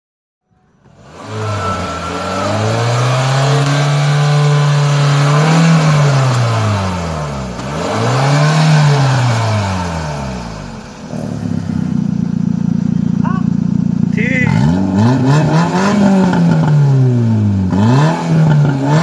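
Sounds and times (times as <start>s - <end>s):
car engine idling: 0.6s - 17.8s
car engine revving: 0.6s - 19.0s.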